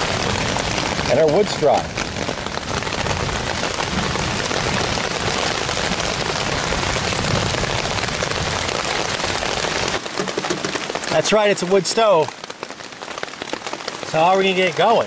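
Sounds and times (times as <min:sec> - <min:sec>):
heavy rain on poncho and leaves: 0:00.0 - 0:15.0.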